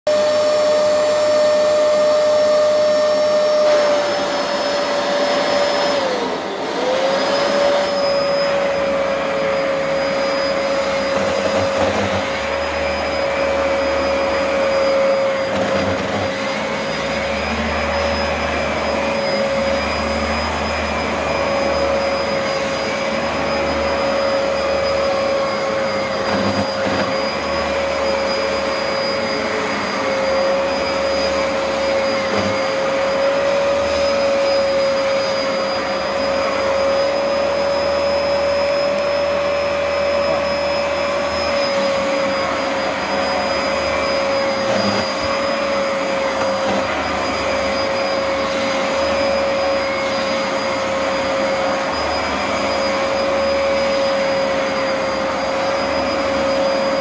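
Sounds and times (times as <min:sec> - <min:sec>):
carpet washer motor whine: 0:00.1 - 0:57.0.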